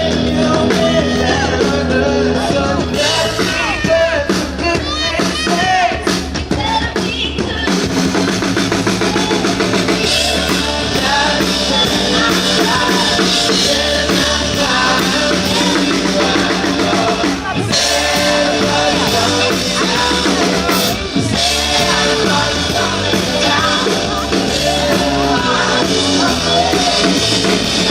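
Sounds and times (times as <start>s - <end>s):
drum kit: 0.0s - 27.9s
live rock band playing: 0.0s - 27.9s.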